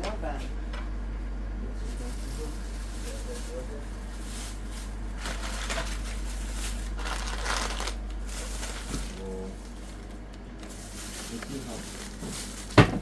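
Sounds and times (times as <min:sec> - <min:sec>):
steady low hum: 0:00.0 - 0:13.0
rustling and crinkling: 0:01.8 - 0:13.0.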